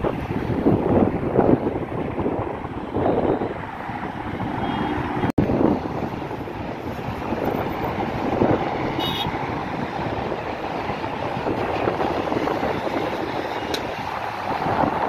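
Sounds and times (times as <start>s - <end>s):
highway traffic: 0.0s - 15.0s
wind buffeting microphone: 0.0s - 15.0s.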